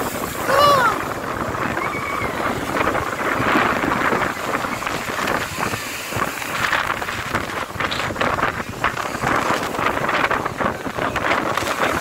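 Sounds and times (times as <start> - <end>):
surf washing on sandy beach: 0.0 - 12.0
wind buffeting microphone: 0.0 - 12.0.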